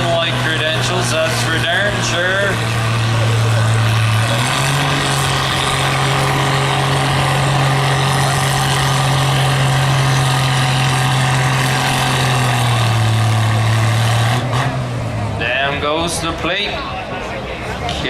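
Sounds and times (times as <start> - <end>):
tractor engine at full throttle: 0.0 - 18.0.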